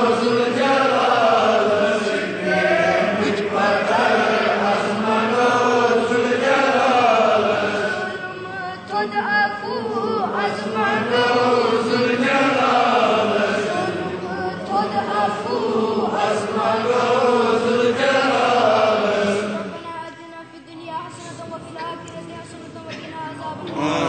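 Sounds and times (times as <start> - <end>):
person singing unaccompanied: 0.0 - 24.0.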